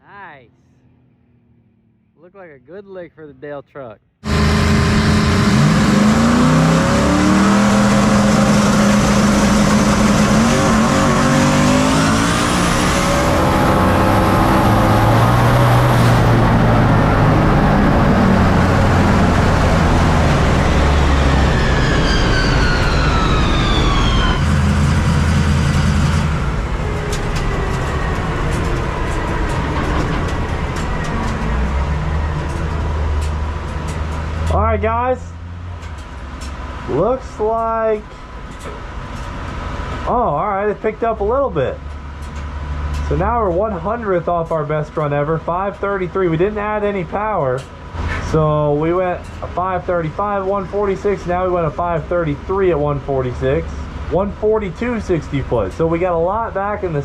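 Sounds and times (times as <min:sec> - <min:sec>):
drag racing engine at full throttle: 0:04.2 - 0:57.0.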